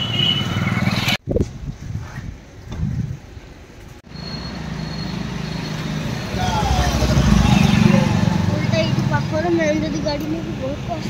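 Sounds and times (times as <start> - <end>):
low hum of traffic: 0.0 - 11.0.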